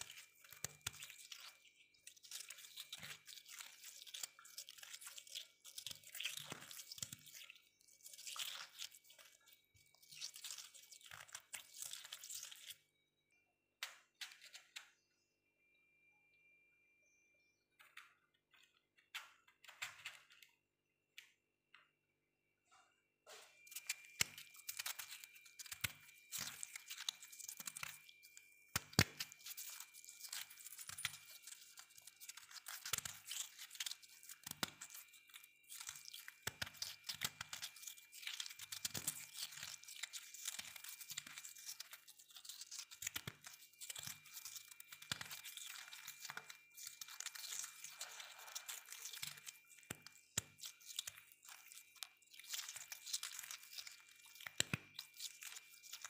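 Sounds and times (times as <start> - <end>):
freezer frost crackling: 0.0 - 12.9, 23.4 - 56.0.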